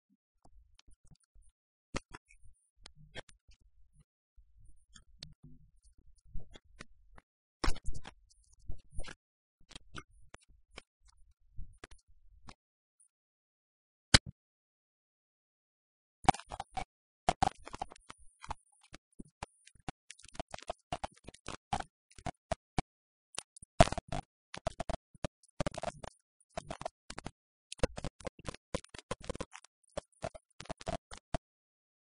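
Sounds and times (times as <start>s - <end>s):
crackling clicks and pops: 0.4s - 4.1s, 4.9s - 13.1s, 14.1s - 14.4s, 16.2s - 31.5s.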